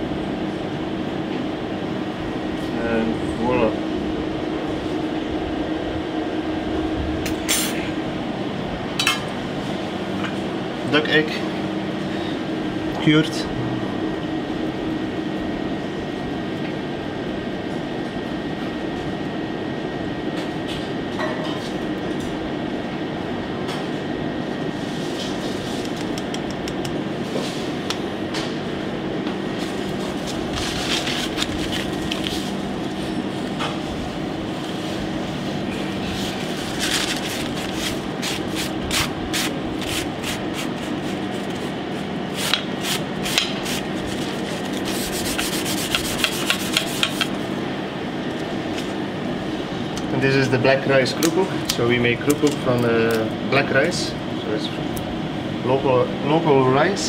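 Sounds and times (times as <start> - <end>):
kitchen ventilation hum: 0.0 - 57.0.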